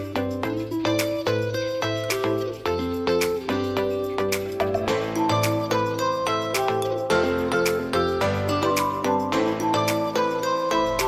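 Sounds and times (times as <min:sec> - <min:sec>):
melodic music with steady beat: 0:00.0 - 0:11.0.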